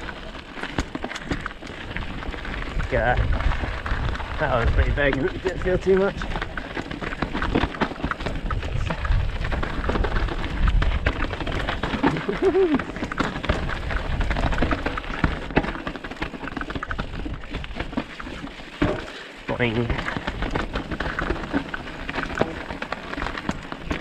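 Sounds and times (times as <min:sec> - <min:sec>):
bike rattling and knocking: 0:00.0 - 0:24.0
tyres crunching over stones: 0:00.0 - 0:24.0
wind rumble on camera: 0:00.0 - 0:24.0.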